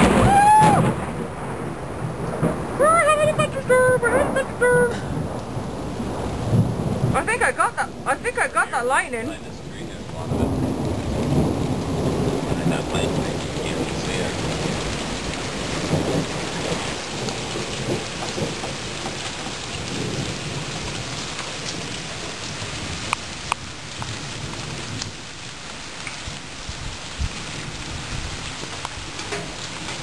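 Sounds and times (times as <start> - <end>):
heavy rain: 0.0 - 30.0
thunder rumbling: 0.0 - 30.0.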